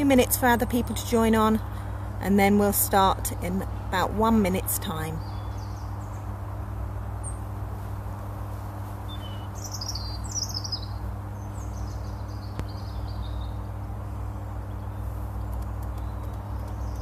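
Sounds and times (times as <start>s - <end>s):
birds chirping: 0.0s - 7.8s, 8.9s - 17.0s
steady low hum: 0.0s - 17.0s.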